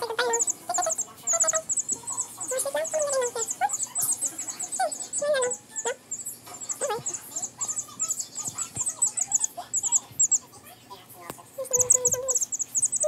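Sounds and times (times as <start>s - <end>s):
chick peeping: 0.0s - 10.6s, 11.6s - 13.0s.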